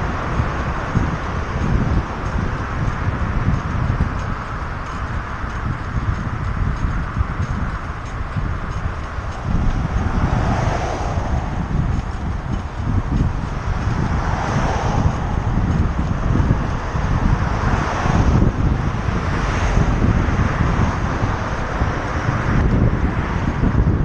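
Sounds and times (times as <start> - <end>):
cars passing: 0.0 - 24.0
wind buffeting microphone: 0.0 - 24.0.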